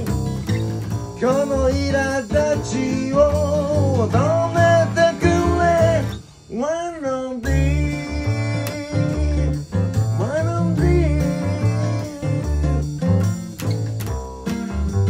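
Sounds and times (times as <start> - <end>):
plucked upright bass: 0.0 - 6.3, 7.4 - 15.0
acoustic guitar: 0.0 - 15.0
drums: 0.0 - 15.0.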